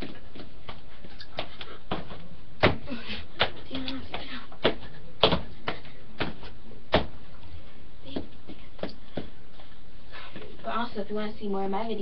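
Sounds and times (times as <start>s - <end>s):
feet stamping on floor: 0.0s - 10.7s.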